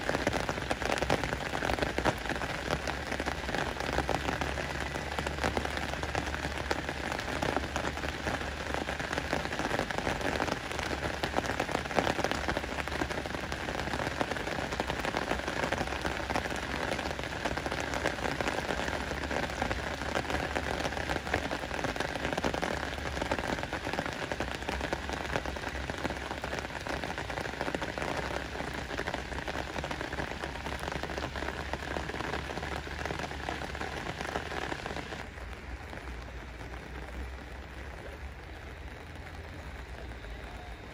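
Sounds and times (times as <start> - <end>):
rain falling on lake: 0.0 - 40.9.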